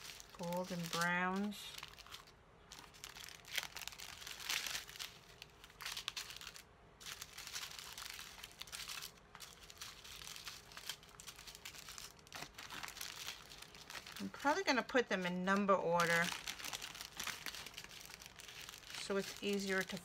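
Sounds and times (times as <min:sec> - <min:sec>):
plastic baggies crinkling: 0:00.0 - 0:20.0.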